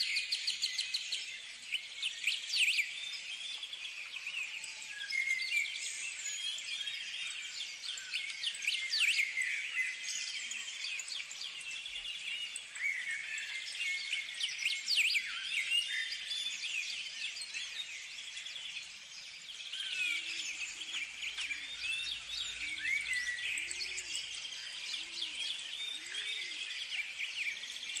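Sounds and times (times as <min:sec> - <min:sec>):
birds singing and chirping: 0:00.0 - 0:28.0.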